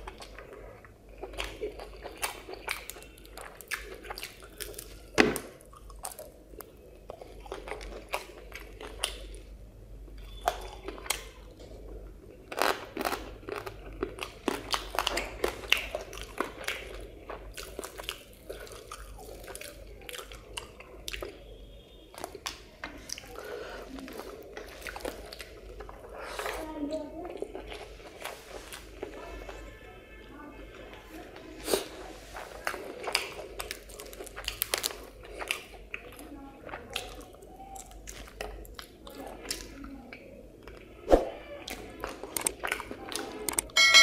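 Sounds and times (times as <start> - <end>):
person chewing food: 0.0 - 29.8, 31.6 - 43.8.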